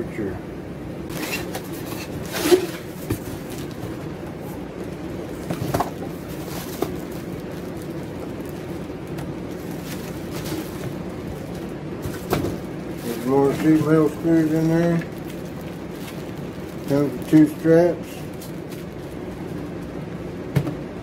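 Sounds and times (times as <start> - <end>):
steady low hum: 0.0 - 21.0
cardboard and plastic wrapping handled: 1.1 - 20.6.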